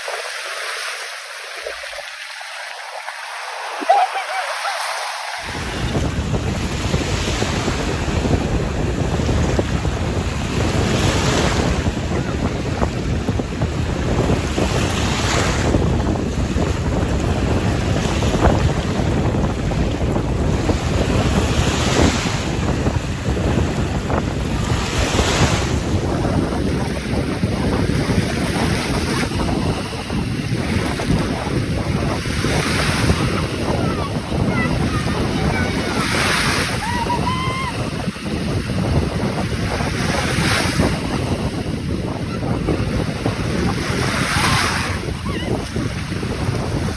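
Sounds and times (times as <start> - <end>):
waves breaking on shore: 0.0 - 46.9
wind rumbling on microphone: 0.0 - 46.9.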